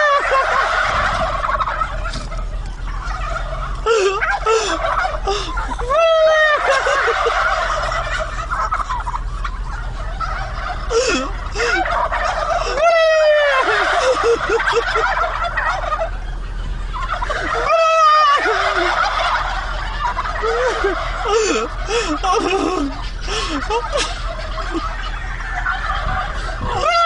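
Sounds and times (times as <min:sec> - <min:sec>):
turkey gobbling: 0:00.0 - 0:27.0.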